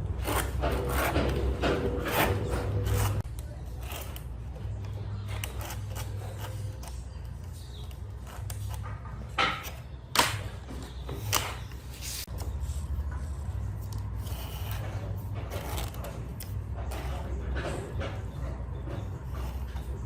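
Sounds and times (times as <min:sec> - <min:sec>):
wood rubbed and scraped: 0:00.0 - 0:09.9, 0:10.9 - 0:20.0.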